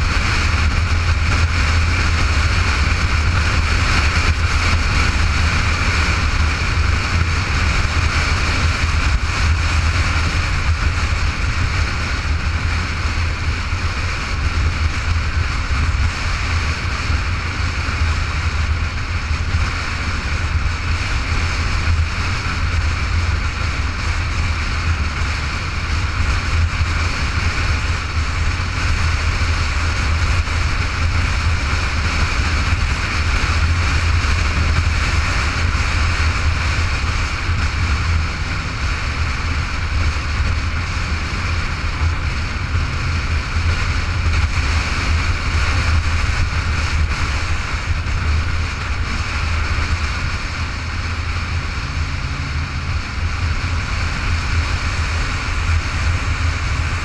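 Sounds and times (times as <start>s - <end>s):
motorcycle engine drone: 0.0s - 57.0s
wind rush on microphone: 0.0s - 57.0s.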